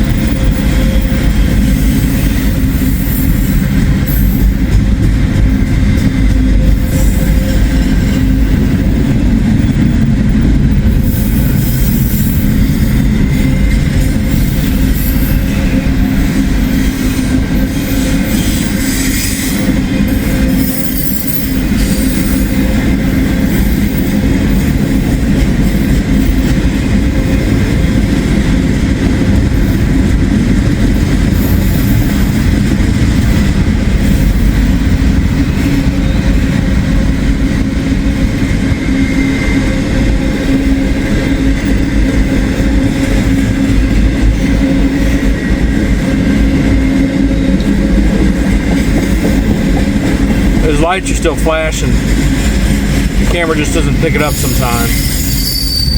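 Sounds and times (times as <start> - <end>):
freight train wheels on track: 0.0 - 55.9.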